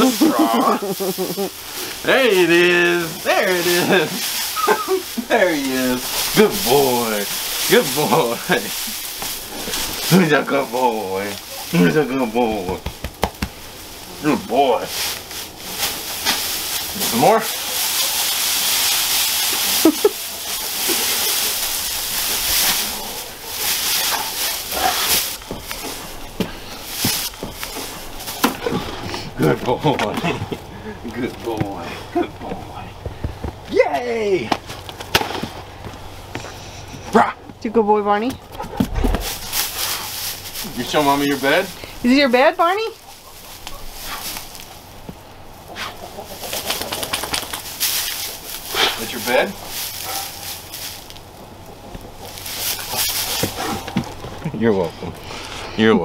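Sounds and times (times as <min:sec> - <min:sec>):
dry straw rustling and crunching: 0:00.0 - 0:37.1, 0:38.0 - 0:56.0.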